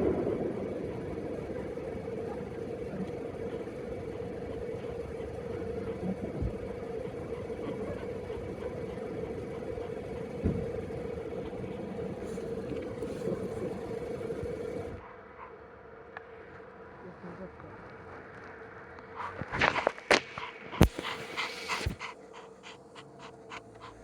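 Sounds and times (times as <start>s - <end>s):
motor-like hum: 0.0s - 24.0s.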